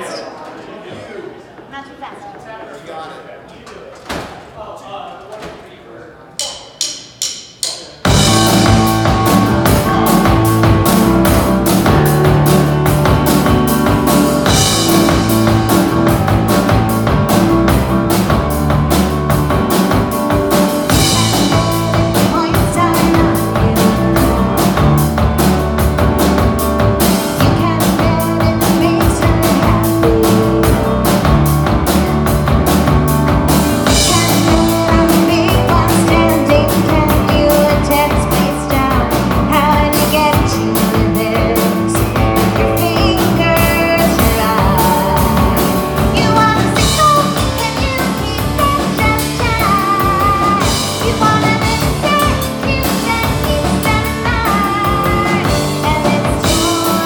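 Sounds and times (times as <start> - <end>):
drum kit steady beat: 6.4 - 57.0
rock band playing live: 6.8 - 57.0
electric bass guitar: 8.1 - 57.0.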